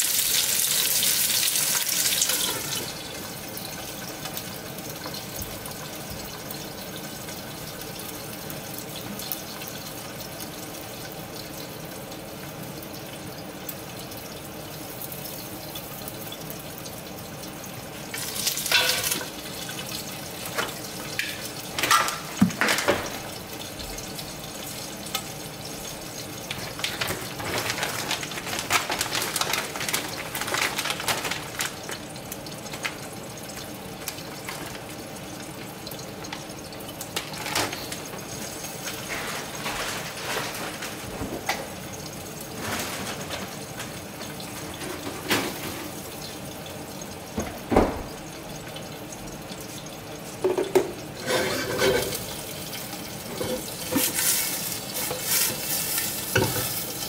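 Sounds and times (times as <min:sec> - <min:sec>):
dumplings sizzling in pan: 0:00.0 - 0:57.0.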